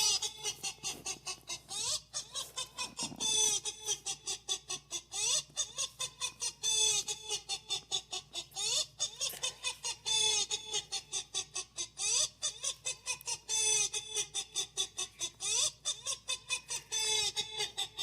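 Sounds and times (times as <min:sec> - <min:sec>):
chicken clucking: 0:00.0 - 0:18.0
chicken squawking: 0:00.0 - 0:18.0.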